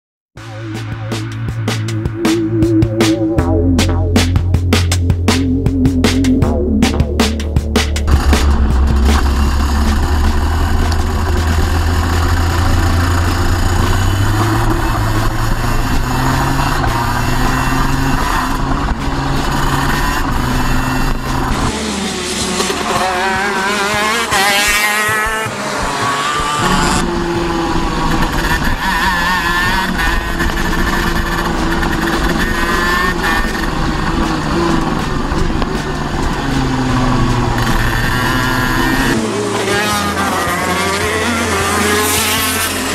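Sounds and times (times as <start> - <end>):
go-kart engine revving: 7.3 - 42.9.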